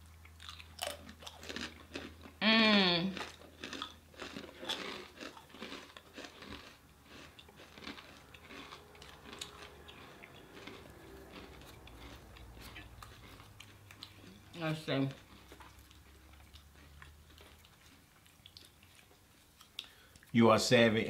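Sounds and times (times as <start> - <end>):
chewing crisp cookies: 0.0 - 21.0.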